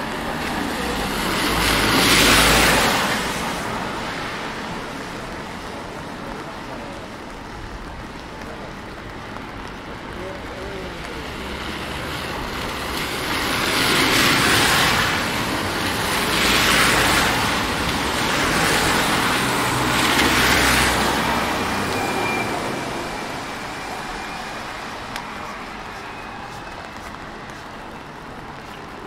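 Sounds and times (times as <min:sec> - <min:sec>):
cars passing on wet road: 0:00.0 - 0:29.0.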